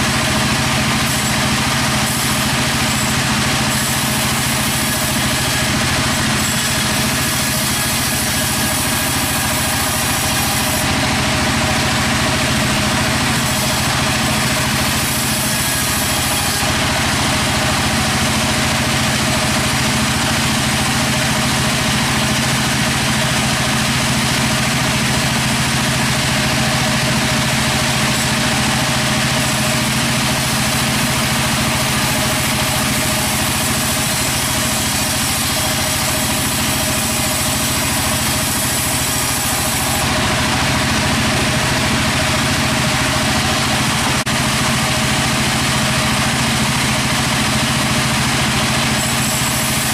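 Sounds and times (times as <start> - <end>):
sawmill machinery droning: 0.0 - 49.9.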